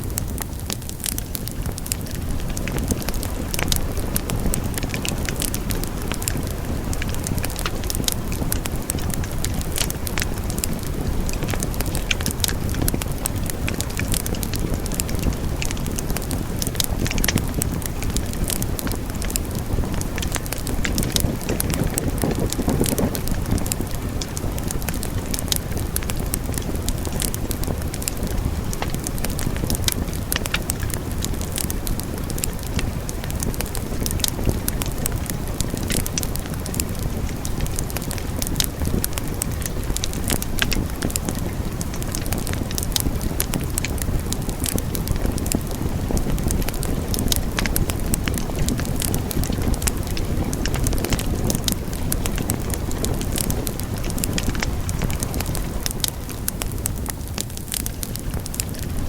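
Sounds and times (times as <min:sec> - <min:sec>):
low rush of flames: 0:00.0 - 0:59.0
wood fire crackling and popping: 0:00.0 - 0:59.0.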